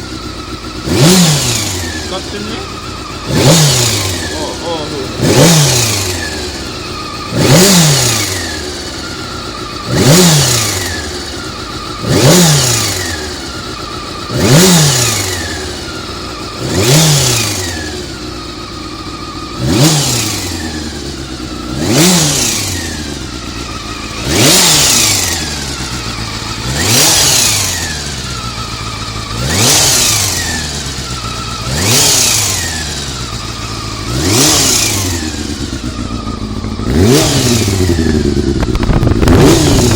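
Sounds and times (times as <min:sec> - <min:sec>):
motorcycle engine throttle blips: 0:00.0 - 0:39.9.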